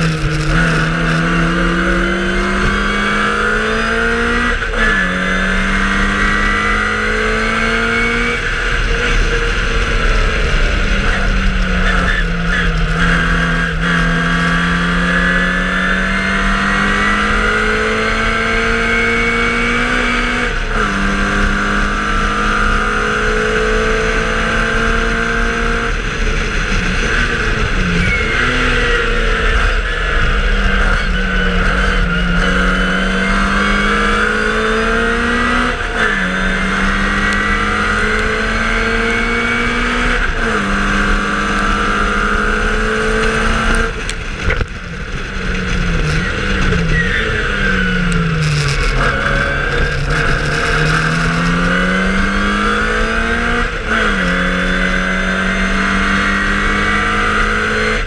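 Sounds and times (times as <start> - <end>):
race car engine accelerating: 0.0 - 58.0
wind and road noise: 0.0 - 58.0.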